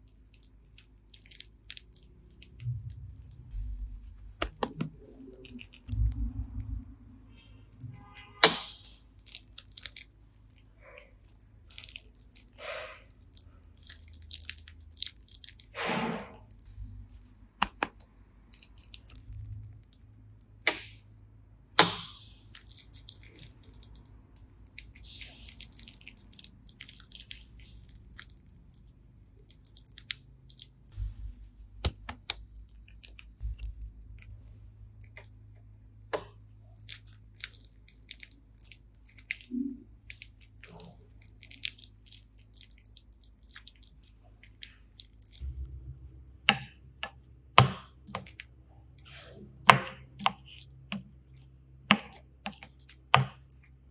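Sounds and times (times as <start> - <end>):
slime squelching by hand: 0.0 - 21.0, 21.8 - 53.9.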